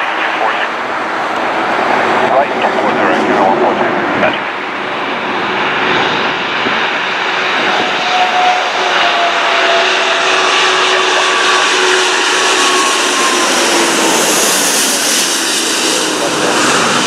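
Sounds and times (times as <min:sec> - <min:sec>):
jet airliner flying overhead: 0:00.0 - 0:17.0.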